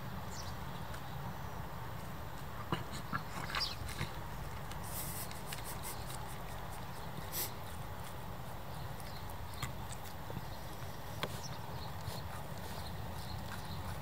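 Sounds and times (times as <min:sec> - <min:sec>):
dog chewing wet crunches: 0:01.8 - 0:14.0.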